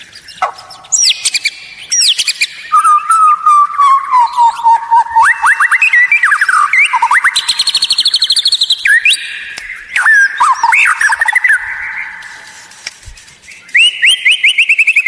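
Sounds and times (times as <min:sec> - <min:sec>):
songbird whistling song: 0:00.0 - 0:15.0.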